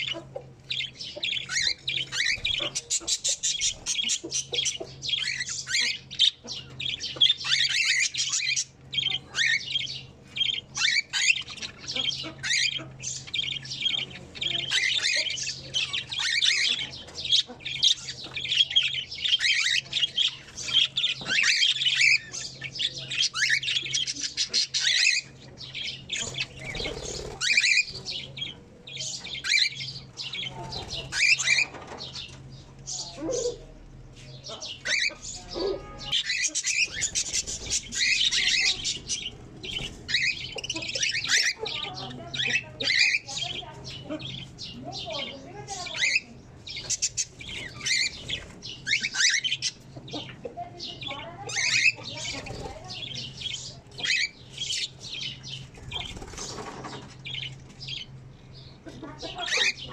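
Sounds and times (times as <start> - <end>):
cockatiels and budgerigars squawking: 0.0 - 59.9.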